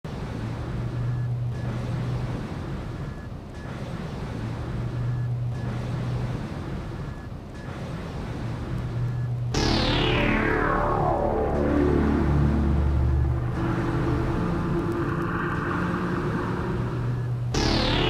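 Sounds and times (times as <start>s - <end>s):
electronic hiss with low hum: 0.1s - 18.0s.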